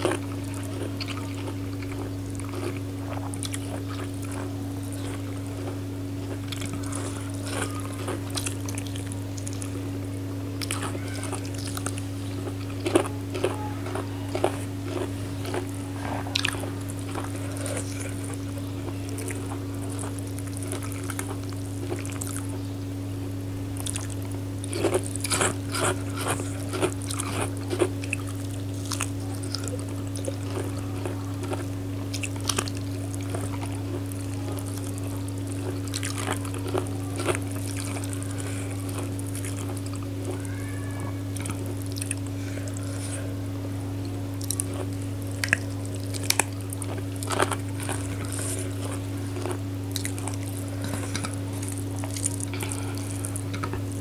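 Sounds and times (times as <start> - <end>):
wet chewing: 0.0 - 9.8, 10.6 - 22.7, 23.7 - 40.5, 41.2 - 43.4, 44.0 - 54.0
steady low hum: 0.0 - 54.0.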